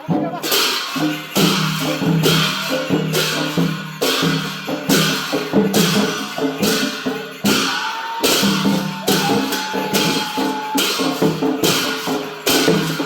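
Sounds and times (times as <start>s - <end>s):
drums: 0.0s - 13.0s
cymbal clashes: 0.4s - 13.0s.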